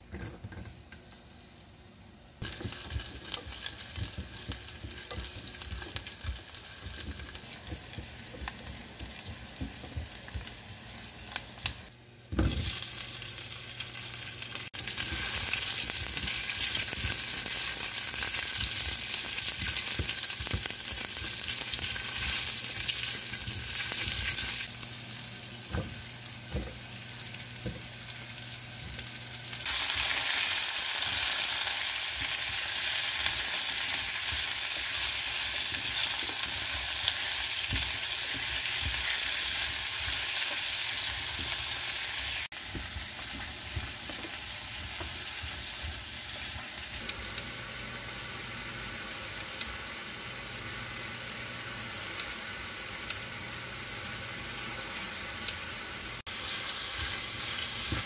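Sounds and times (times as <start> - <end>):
food sizzling in frying pan: 2.4 - 58.0.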